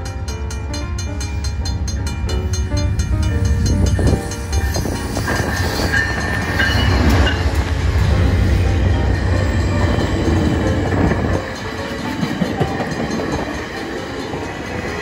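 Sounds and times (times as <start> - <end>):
diesel locomotive engine drone: 0.0 - 15.0
train coaches rolling past: 0.0 - 15.0.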